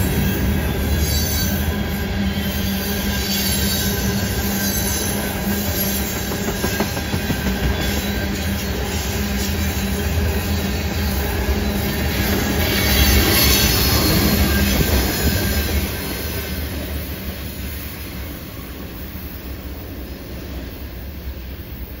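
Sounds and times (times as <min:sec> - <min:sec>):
train wheels rumbling and clacking: 0:00.0 - 0:22.0.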